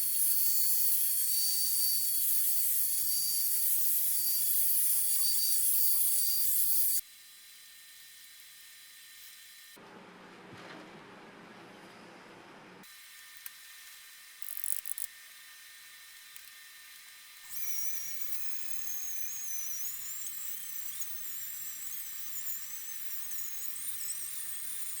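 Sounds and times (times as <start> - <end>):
high-pitched rotary tool whine: 0.0 - 9.8, 12.9 - 25.0.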